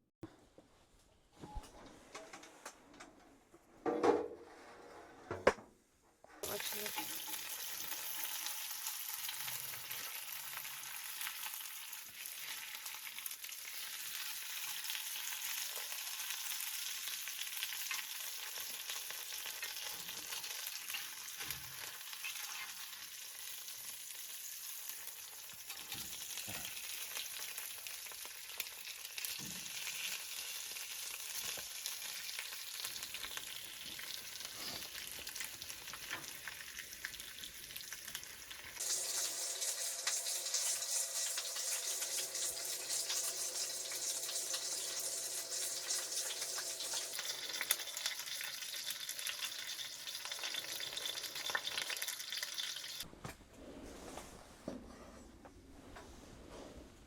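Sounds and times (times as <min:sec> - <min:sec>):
food sizzling in a hot pan: 0:06.4 - 0:53.1.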